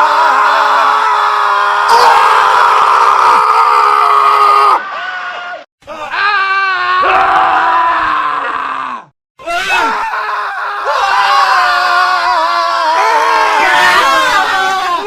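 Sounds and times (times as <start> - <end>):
man screaming: 0.0 - 15.0.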